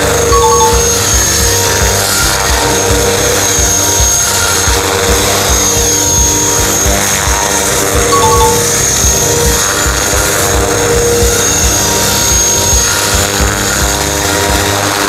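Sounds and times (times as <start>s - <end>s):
background music with steady beat: 0.0s - 15.0s
electric helicopter whine: 0.0s - 15.0s.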